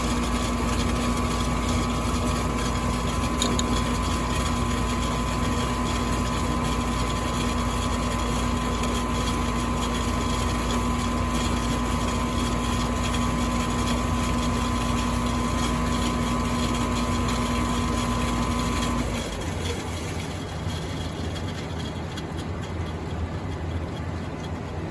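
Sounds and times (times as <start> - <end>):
furnace humming: 0.0 - 24.9.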